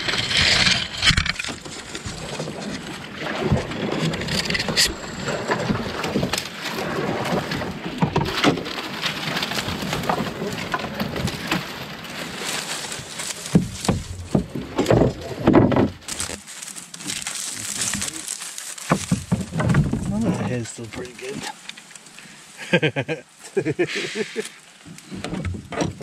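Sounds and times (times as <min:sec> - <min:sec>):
paddle splashes and clunks: 0:00.0 - 0:22.4, 0:24.4 - 0:26.0
dry reeds scraping a hull: 0:00.0 - 0:22.6, 0:23.3 - 0:26.0.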